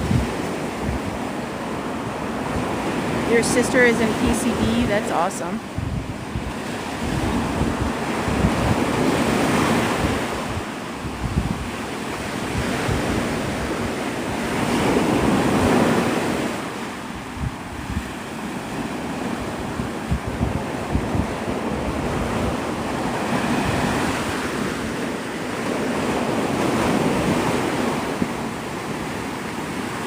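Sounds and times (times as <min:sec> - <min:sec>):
surf breaking on a beach: 0:00.0 - 0:30.0
wind buffeting microphone: 0:00.0 - 0:30.0.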